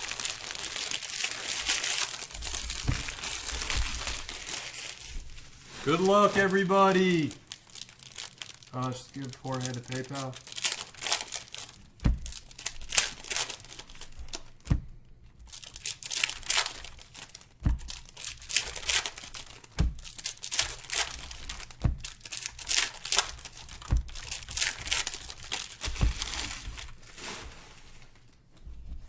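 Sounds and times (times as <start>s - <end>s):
boxes thumping: 0.0s - 7.9s, 10.4s - 27.5s
plastic wrapping crinkling and tearing: 0.0s - 28.6s.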